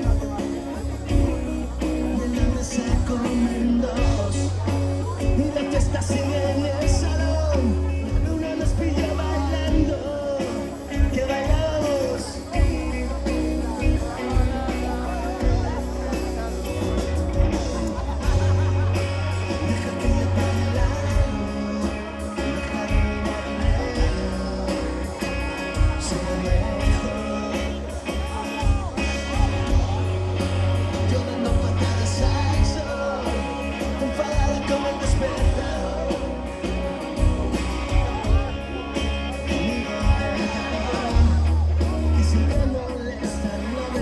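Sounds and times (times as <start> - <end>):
person singing: 0.0 - 44.0
rock band playing: 0.0 - 44.0.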